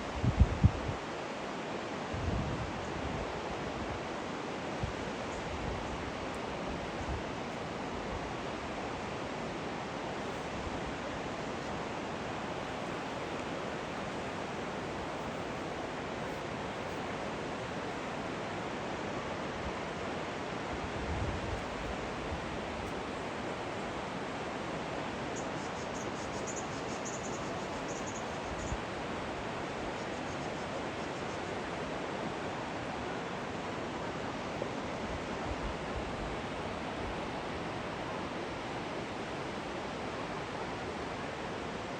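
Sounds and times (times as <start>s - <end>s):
stream water rushing and gurgling: 0.0s - 41.9s.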